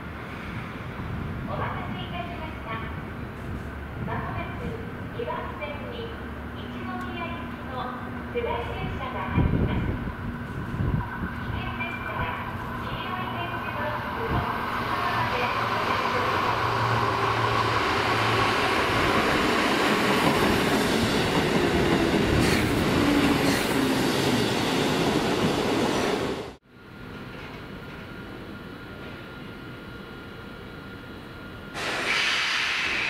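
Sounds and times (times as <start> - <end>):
train rail and wheel noise: 0.0 - 33.0.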